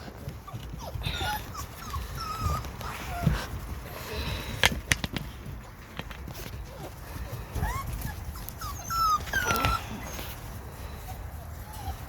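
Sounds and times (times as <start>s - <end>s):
puppies whimpering and whining: 0.0s - 4.6s, 6.4s - 12.0s.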